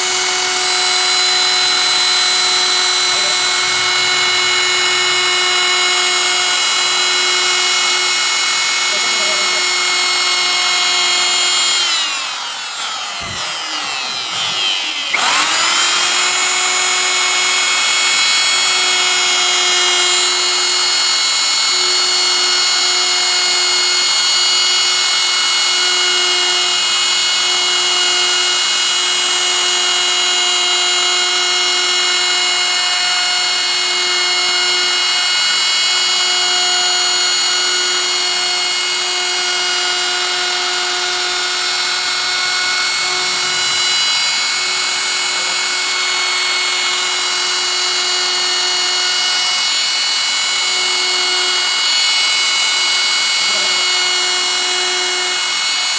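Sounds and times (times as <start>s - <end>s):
router motor whining: 0.0s - 55.9s.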